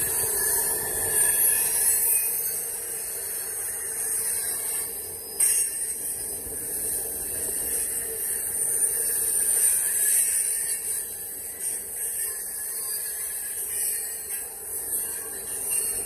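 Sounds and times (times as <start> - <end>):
train wheels hissing on rails: 0.0 - 16.0.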